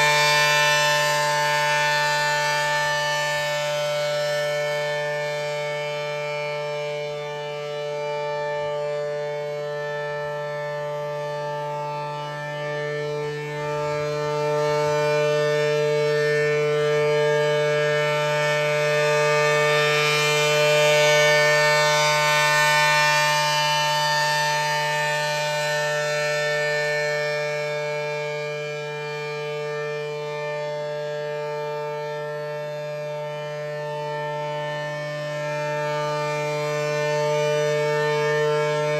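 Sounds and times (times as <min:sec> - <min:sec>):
tornado siren steady tone: 0:00.0 - 0:38.9.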